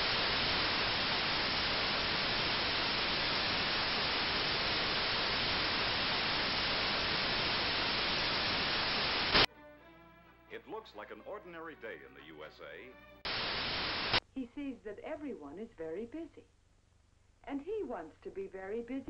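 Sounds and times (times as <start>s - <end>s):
television static hiss: 0.0s - 9.5s, 10.6s - 19.0s.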